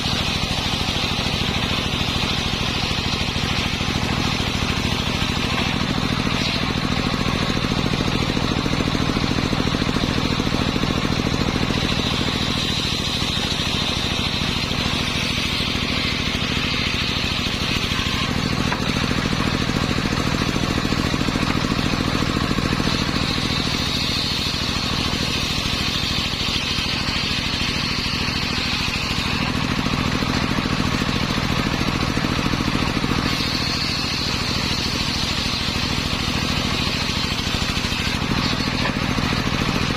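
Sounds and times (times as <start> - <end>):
saw blade whining in wood: 0.0 - 39.9.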